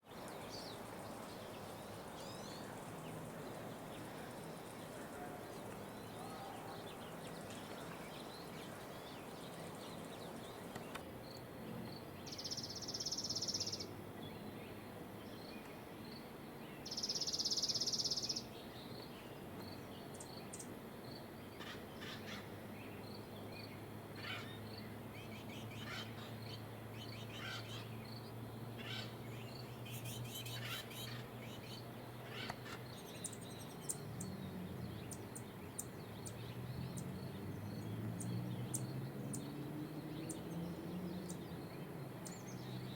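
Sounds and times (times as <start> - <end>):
small birds chirping: 0.1 - 16.2, 16.8 - 42.9.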